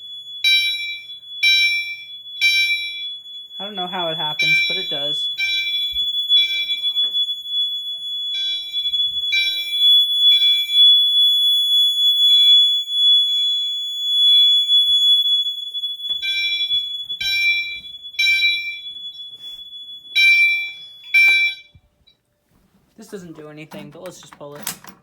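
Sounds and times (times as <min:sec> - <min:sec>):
fire alarm horn blasts: 0:00.0 - 0:22.0
continuous high-pitched alarm tone: 0:00.0 - 0:22.2.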